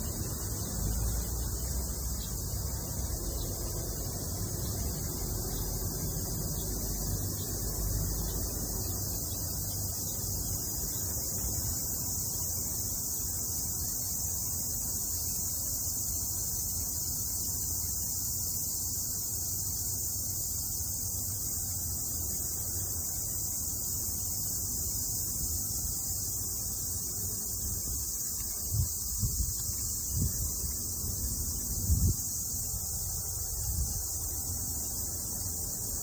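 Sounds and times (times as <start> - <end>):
high-pitched hiss: 0.0 - 36.0.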